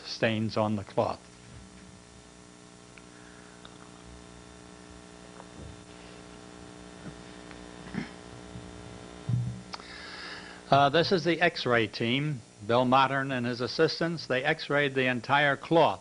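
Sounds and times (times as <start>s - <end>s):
low electrical mains hum: 0.0s - 16.0s.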